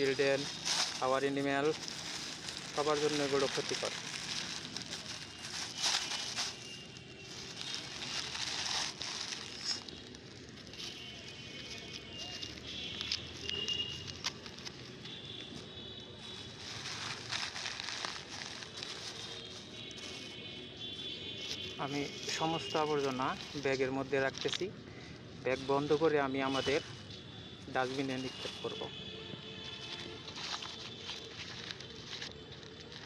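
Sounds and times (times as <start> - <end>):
plastic bag crackling: 0.0 - 27.1, 27.7 - 33.0.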